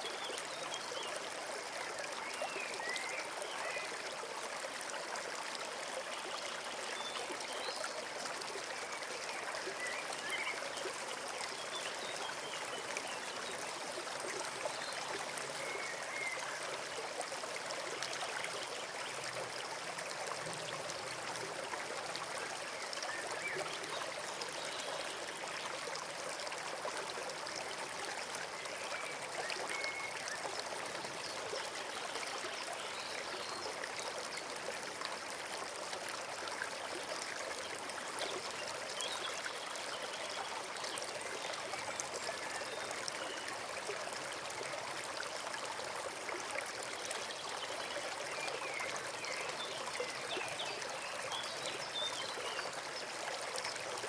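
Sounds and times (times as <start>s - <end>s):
brook running: 0.0s - 54.0s.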